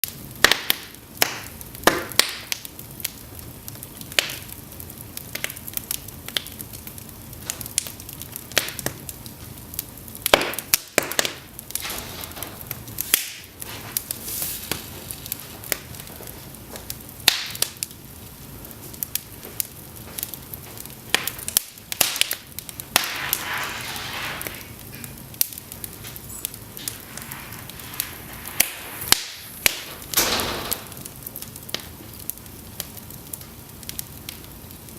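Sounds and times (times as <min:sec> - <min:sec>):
fire crackling and popping: 0:00.0 - 0:34.9
low hiss of flame: 0:00.0 - 0:34.9.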